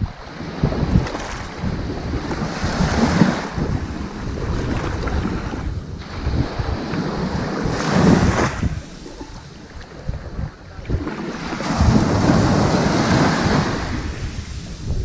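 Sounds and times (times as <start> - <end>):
ocean waves breaking on beach: 0.0 - 15.0.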